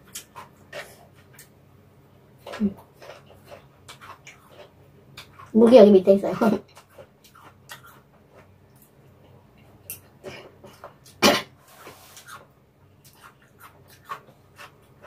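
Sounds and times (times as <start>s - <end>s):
soft chewing: 0.0s - 1.6s, 2.3s - 5.7s, 6.4s - 15.0s.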